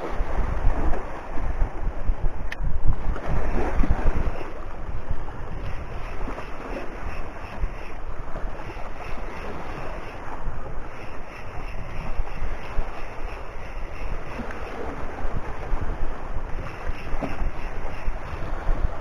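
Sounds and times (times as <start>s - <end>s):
waves washing: 0.0s - 19.0s
wind buffeting microphone: 0.0s - 19.0s.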